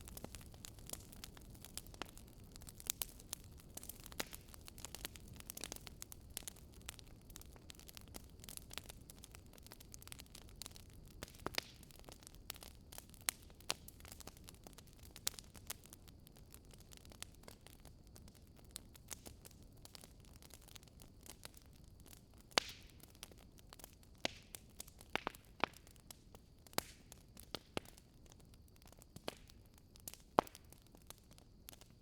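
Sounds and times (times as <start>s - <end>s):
firewood crackling: 0.0s - 32.0s.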